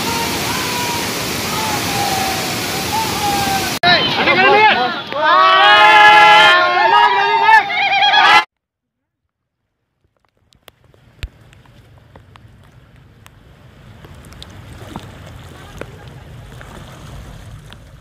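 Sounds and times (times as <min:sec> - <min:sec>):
floodwater rushing: 0:00.0 - 0:07.3, 0:10.2 - 0:18.0.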